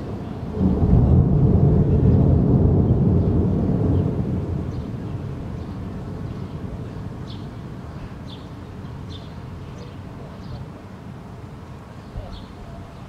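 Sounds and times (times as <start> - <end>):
distant thunder rumble: 0.0 - 13.0.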